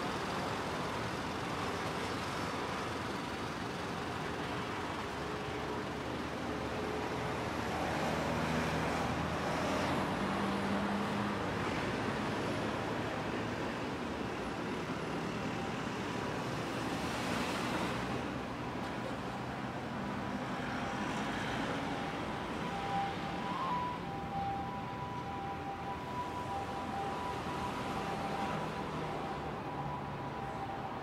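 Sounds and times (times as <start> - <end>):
cars and buses passing: 0.0 - 31.0.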